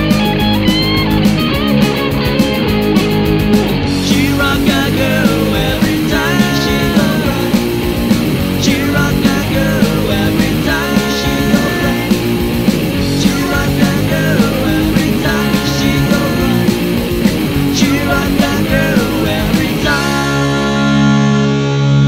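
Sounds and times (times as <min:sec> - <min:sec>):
bending guitar lead notes: 0:00.0 - 0:22.0
punk rock band playing: 0:00.0 - 0:22.0.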